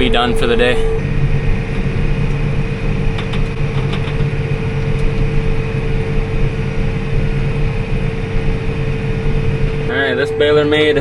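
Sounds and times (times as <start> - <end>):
steady whining tone: 0.0 - 11.0
tractor engine running: 0.0 - 11.0.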